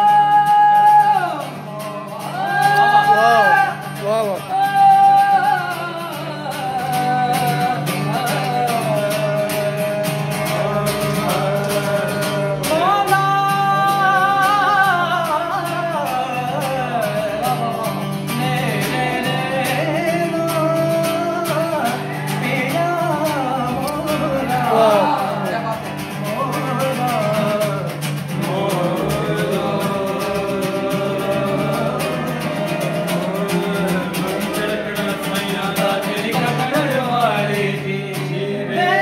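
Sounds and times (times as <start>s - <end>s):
men singing folk song: 0.0s - 39.0s
strummed acoustic guitar: 0.0s - 39.0s.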